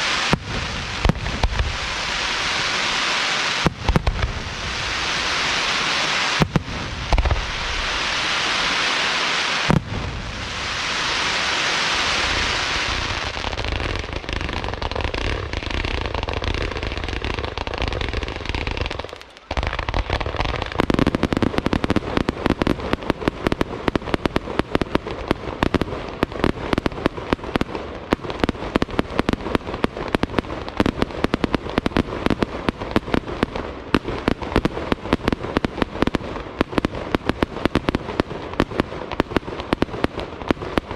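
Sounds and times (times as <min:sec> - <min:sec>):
fireworks bangs: 0:00.0 - 0:40.9
fireworks hissing crackle: 0:00.0 - 0:40.9.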